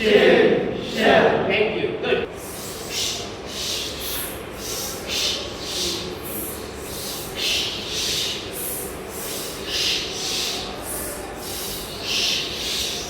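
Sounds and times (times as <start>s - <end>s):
man hissing sh and s sounds: 0.0s - 1.3s, 2.2s - 13.0s.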